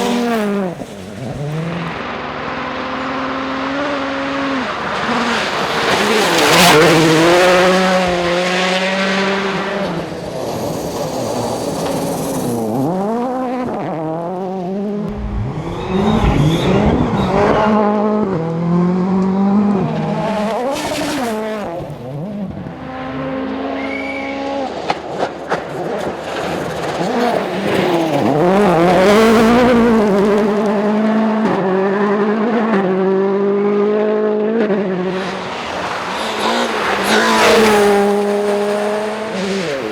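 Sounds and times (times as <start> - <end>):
rally cars passing at speed: 0.0 - 39.9.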